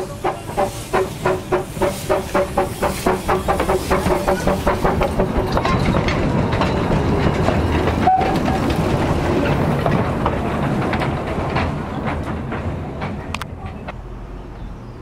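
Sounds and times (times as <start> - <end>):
train running on track: 0.0 - 15.0.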